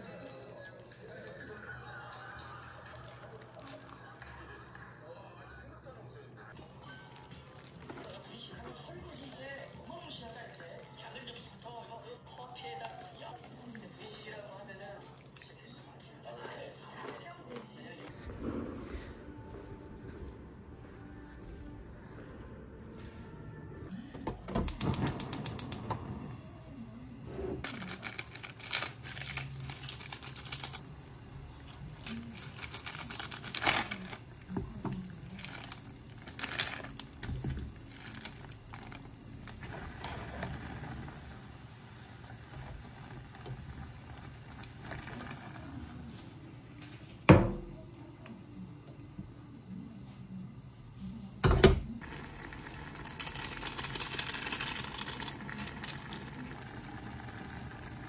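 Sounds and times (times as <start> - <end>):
rustling and clatter of cooking: 0.0 - 5.0, 6.6 - 19.5, 24.0 - 58.0.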